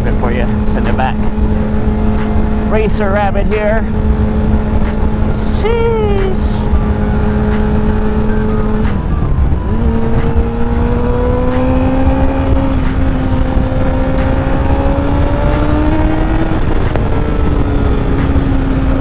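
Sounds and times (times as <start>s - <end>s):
motorcycle engine under way: 0.0s - 19.0s
wind rumble on microphone: 0.0s - 19.0s.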